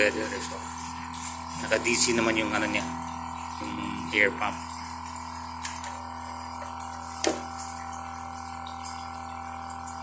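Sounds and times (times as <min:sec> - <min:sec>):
air pump humming and hissing: 0:00.0 - 0:10.0.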